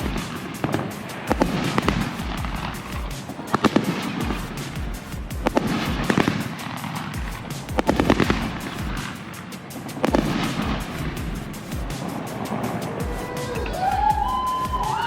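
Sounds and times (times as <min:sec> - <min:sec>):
fireworks bangs and crackles: 0:00.0 - 0:13.1
background music with steady beat: 0:00.0 - 0:15.0.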